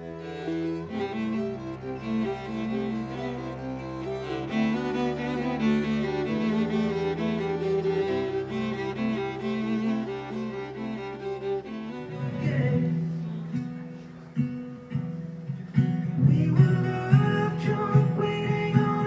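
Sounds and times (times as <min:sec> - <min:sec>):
held string notes: 0:00.0 - 0:19.0
plucked string notes: 0:00.0 - 0:19.0.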